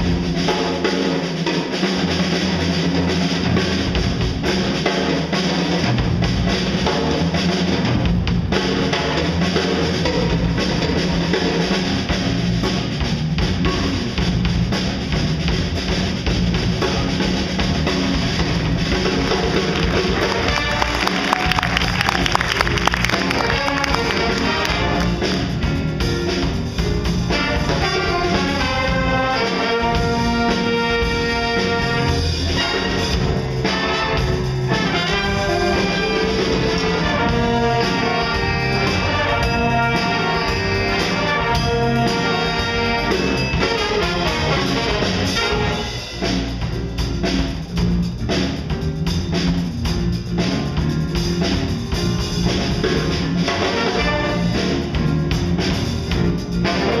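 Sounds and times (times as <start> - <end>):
drum hits: 0.0 - 57.0
jazz big band playing: 0.0 - 57.0.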